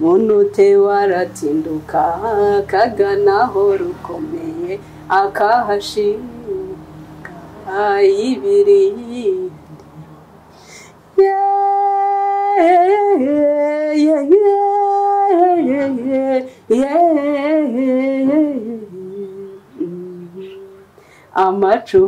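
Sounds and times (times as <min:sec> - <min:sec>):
woman singing wordless melody: 0:00.0 - 0:22.0.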